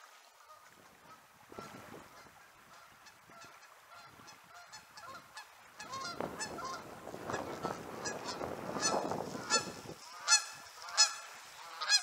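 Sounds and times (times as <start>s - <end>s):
geese honking: 2.1s - 12.0s.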